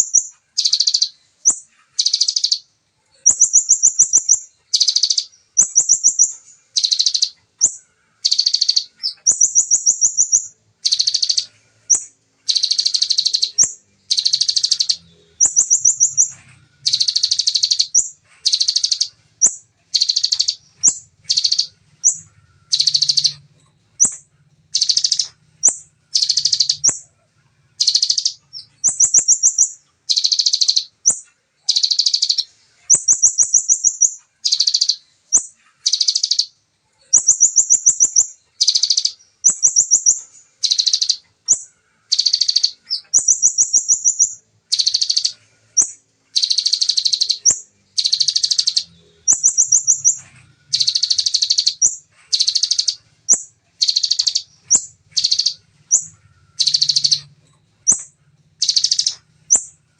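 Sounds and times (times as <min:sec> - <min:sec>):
sunbird singing high trills: 0:00.0 - 0:23.4, 0:24.8 - 0:27.0, 0:27.8 - 0:59.8.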